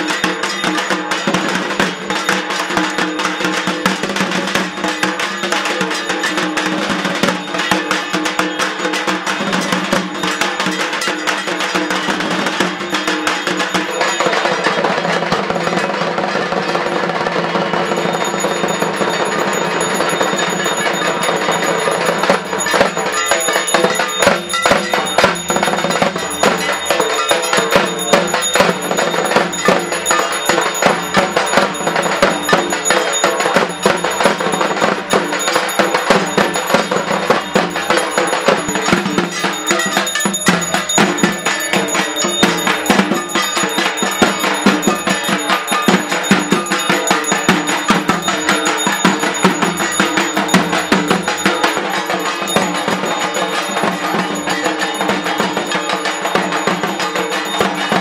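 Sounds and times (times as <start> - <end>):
drums beaten with sticks: 0.0 - 58.0
hand bell ringing: 0.0 - 58.0.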